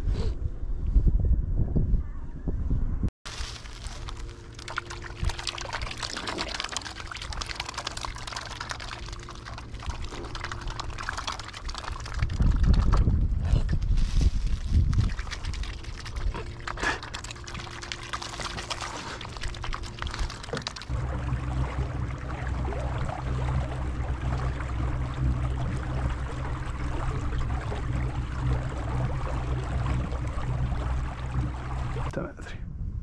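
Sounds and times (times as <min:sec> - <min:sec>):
steady low hum: 0:02.8 - 0:33.0
swans splashing in water: 0:03.3 - 0:13.2, 0:14.3 - 0:32.1
trickling water: 0:03.3 - 0:32.1.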